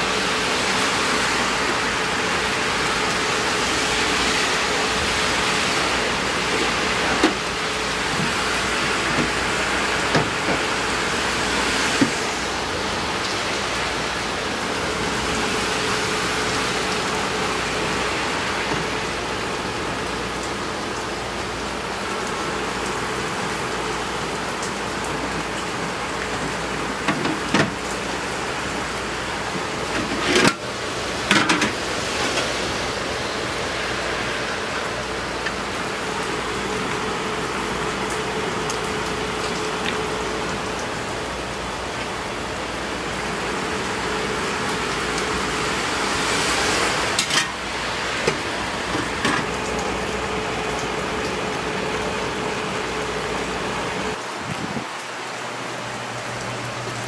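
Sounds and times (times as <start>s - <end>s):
bubbling hiss of boiling water: 0.0s - 54.8s.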